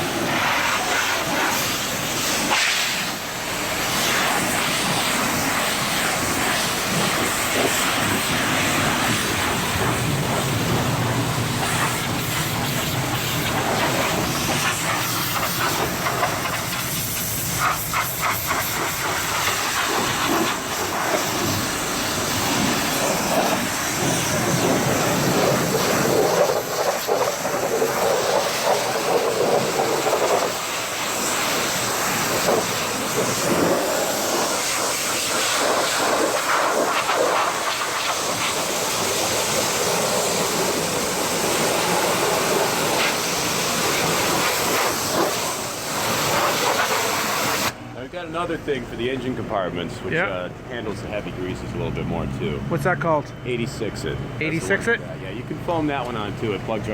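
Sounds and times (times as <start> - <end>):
pressure washer spraying: 0.0 - 47.8.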